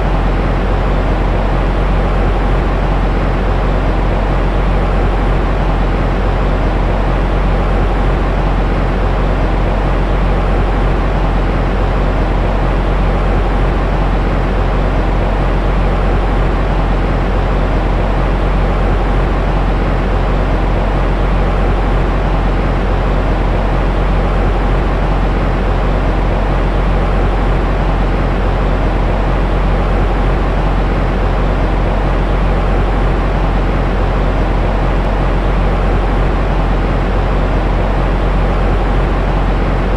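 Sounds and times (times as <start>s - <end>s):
white noise hiss and rumble: 0.0s - 39.9s.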